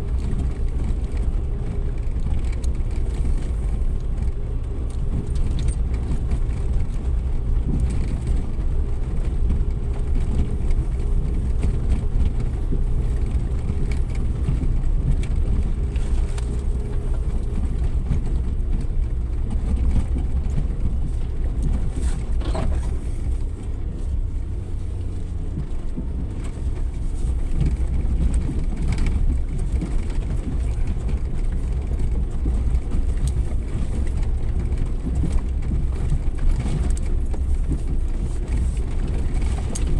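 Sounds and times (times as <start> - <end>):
vehicle engine rumbling off-road: 0.0 - 39.9.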